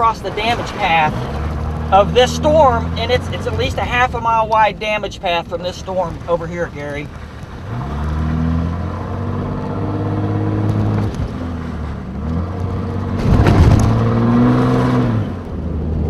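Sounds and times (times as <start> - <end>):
vehicle engine shifting gears: 0.0 - 16.0.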